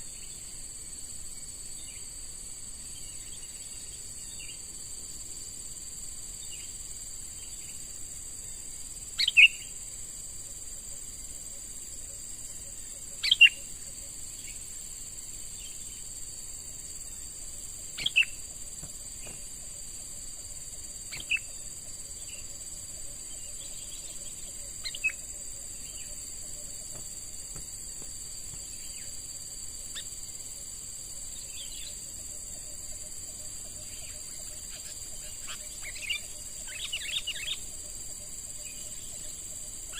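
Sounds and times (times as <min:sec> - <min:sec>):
crickets droning: 0:00.0 - 0:39.9.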